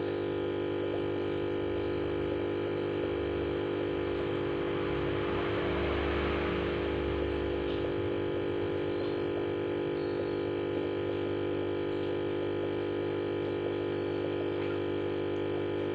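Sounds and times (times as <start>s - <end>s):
aquarium pump humming: 0.0s - 15.9s.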